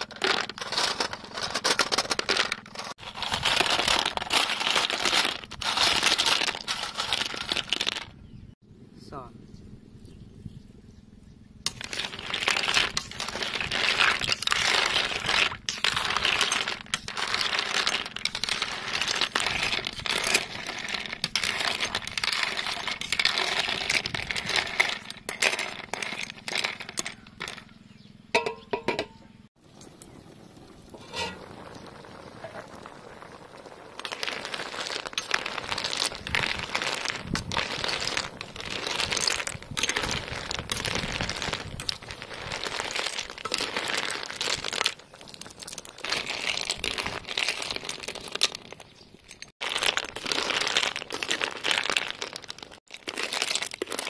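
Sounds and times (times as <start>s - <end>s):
snail shells clattering in metal pan: 0.0s - 8.2s, 11.7s - 27.8s, 33.2s - 54.0s.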